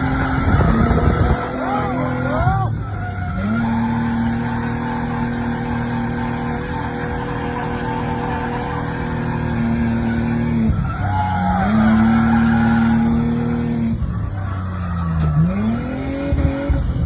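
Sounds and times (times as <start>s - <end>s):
tyres squealing: 0.0s - 16.2s
car engine at high revs: 0.0s - 17.0s.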